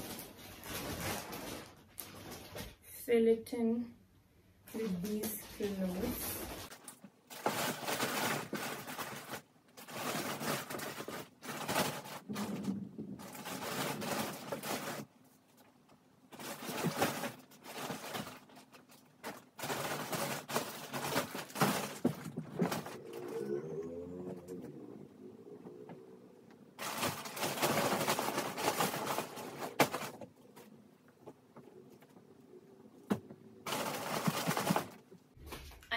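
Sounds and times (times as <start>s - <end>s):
plastic bag crinkling and rustling: 0.0s - 2.8s, 4.7s - 24.8s, 26.8s - 35.8s.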